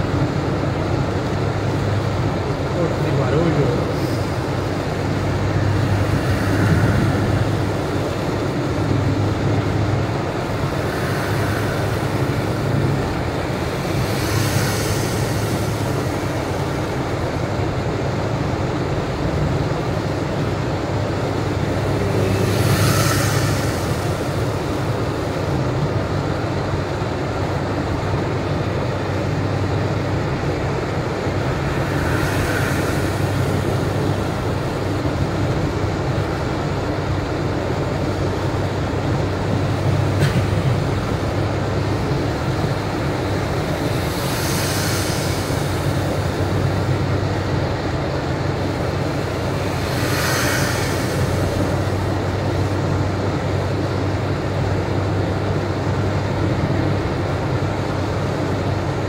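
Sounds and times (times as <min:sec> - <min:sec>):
tyre and engine rumble: 0:00.0 - 0:59.0
wet tyres hissing: 0:00.0 - 0:59.0.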